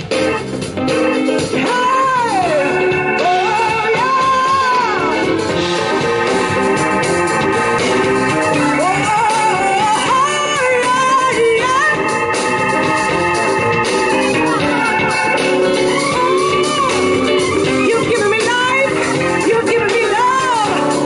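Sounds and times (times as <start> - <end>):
drums: 0.0 - 21.0
electric bass: 0.0 - 21.0
organ-toned keyboard chords: 0.0 - 21.0
sliding lead melody: 0.0 - 21.0.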